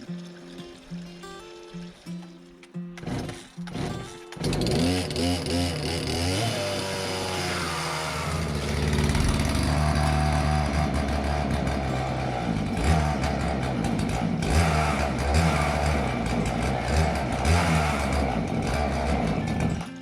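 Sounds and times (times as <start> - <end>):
chainsaw engine: 0.0 - 20.0.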